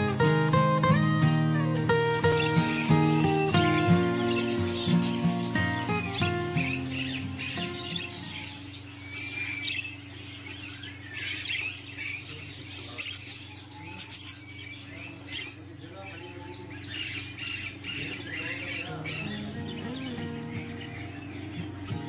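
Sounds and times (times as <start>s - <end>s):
budgerigars chattering and squawking: 0.0s - 22.0s
steady low hum: 0.0s - 22.0s.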